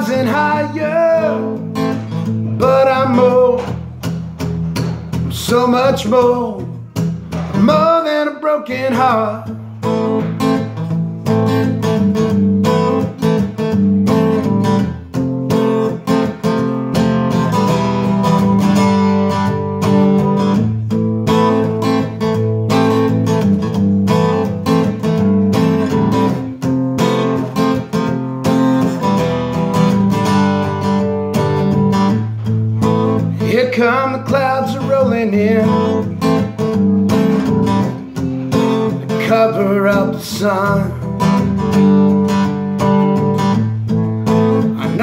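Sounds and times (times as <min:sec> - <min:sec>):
acoustic guitar strumming chords: 0:00.0 - 0:45.0.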